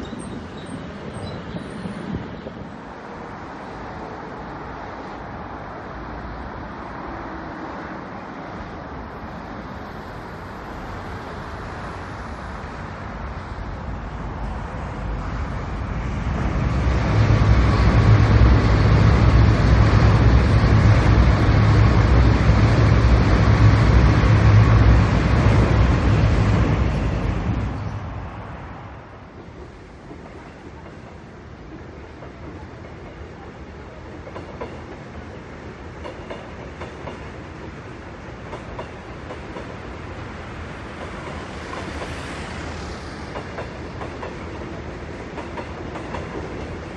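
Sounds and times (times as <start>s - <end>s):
electric train passing: 0.0s - 46.9s.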